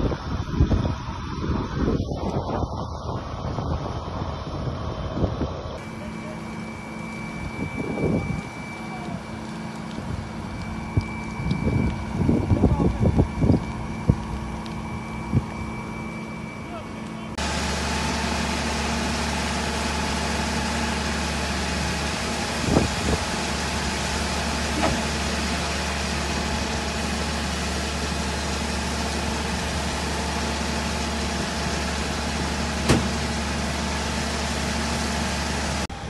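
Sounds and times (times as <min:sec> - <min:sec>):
vehicle engine humming: 0:00.0 - 0:36.0.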